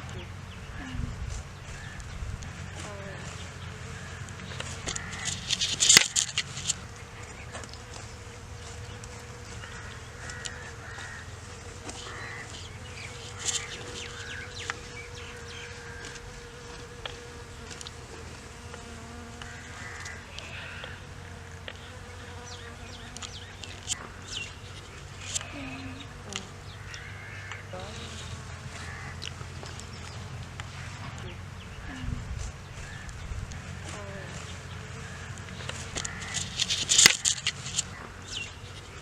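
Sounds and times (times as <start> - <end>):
bees buzzing: 0.0 - 39.0
birds chirping: 0.0 - 39.0.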